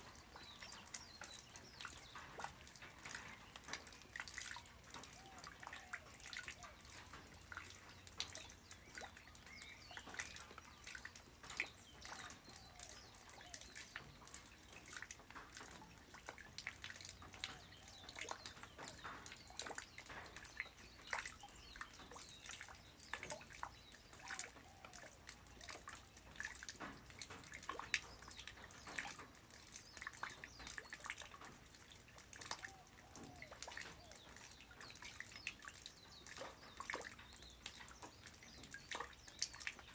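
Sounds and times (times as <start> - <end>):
light rain patter on ground: 0.0 - 39.9.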